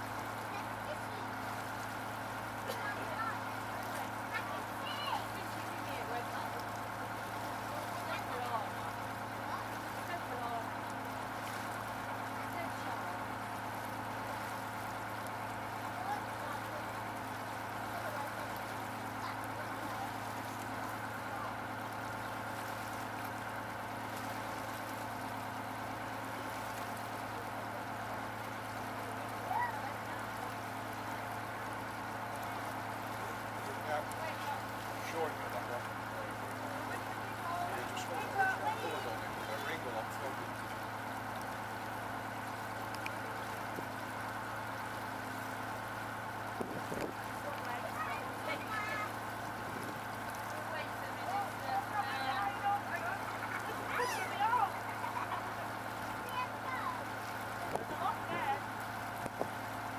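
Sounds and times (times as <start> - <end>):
boat engine low hum: 0.0 - 59.9.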